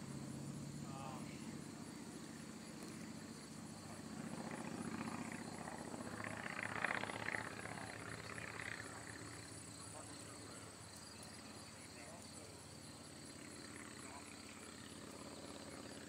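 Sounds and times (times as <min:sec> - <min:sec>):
distant engine hum: 0:00.0 - 0:16.0
insects chirping: 0:00.0 - 0:16.0.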